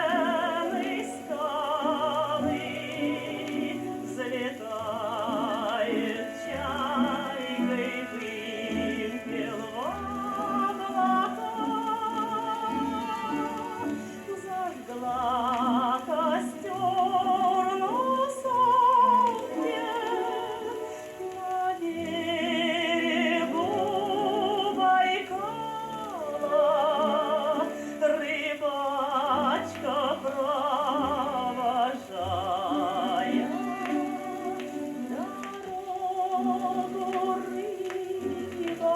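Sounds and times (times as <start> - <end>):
old gramophone orchestral music: 0.0 - 38.9.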